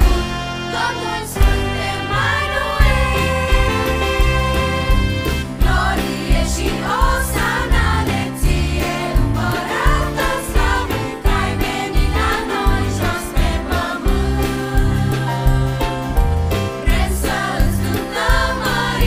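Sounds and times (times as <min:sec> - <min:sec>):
children's choir singing carol: 0:00.0 - 0:15.8, 0:16.8 - 0:19.0
band with piano and drums: 0:00.0 - 0:19.0.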